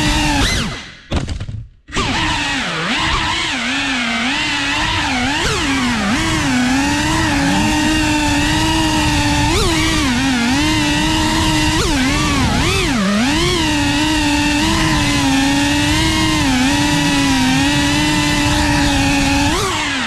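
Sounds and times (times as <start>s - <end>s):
quadcopter motors whining: 0.0s - 0.9s, 1.9s - 20.0s.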